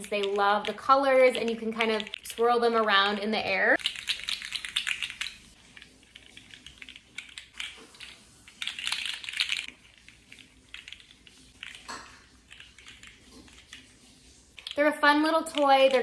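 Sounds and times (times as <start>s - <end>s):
plastic toy clicking and rattling: 0.0s - 13.8s, 14.6s - 16.0s.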